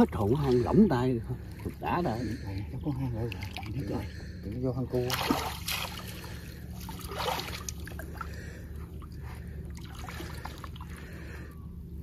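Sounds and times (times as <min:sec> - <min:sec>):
small water splashes: 0:00.0 - 0:11.5
muddy water trickling and sloshing: 0:00.0 - 0:12.0.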